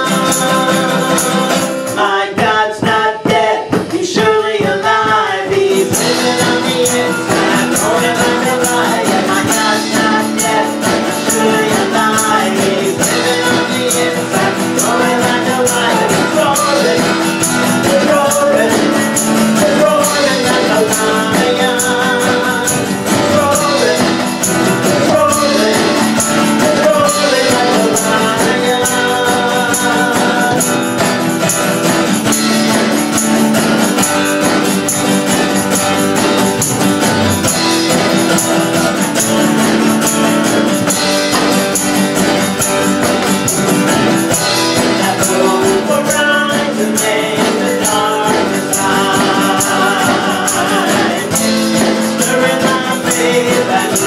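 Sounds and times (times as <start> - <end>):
shaken tambourine: 0.0 - 54.0
worship band music: 0.0 - 54.0.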